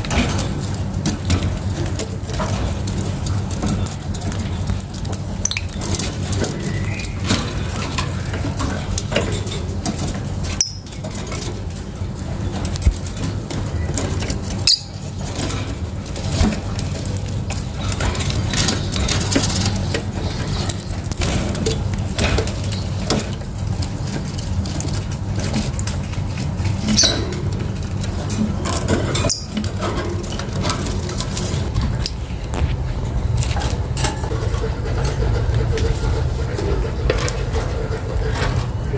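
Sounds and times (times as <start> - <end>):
birds clicking and scratching: 0.0 - 38.9
steady low hum: 0.0 - 38.9.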